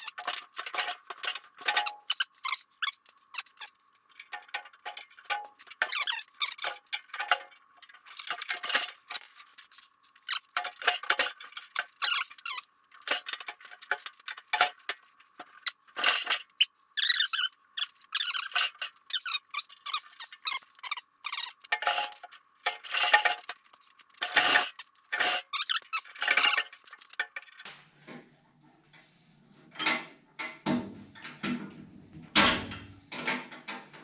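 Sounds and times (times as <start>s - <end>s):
metal parts clinking and scraping: 0.0s - 27.7s.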